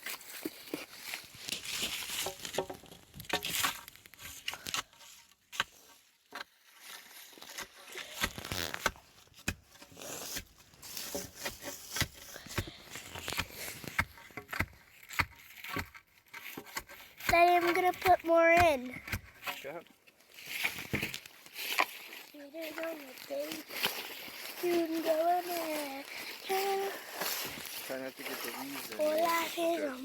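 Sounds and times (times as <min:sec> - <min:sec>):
shovel scraping soil and leaves: 0:00.0 - 0:30.0.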